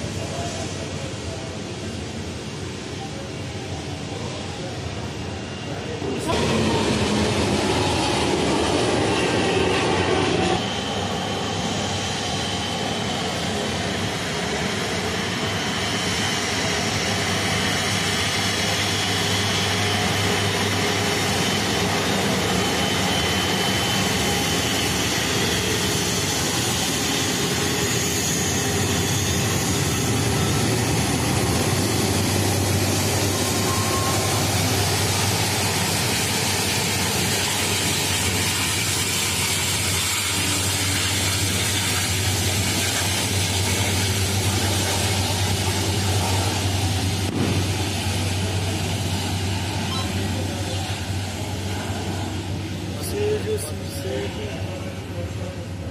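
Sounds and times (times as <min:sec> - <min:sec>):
jet engine cabin rush: 0:04.3 - 0:55.8.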